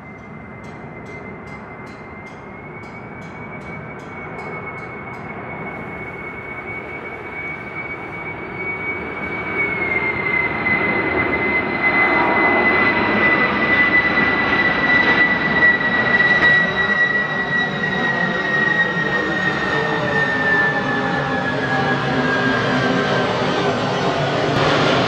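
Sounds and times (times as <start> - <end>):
jet engine high-pitched whine: 0.0 - 25.0
jet roar passing overhead: 0.0 - 25.0.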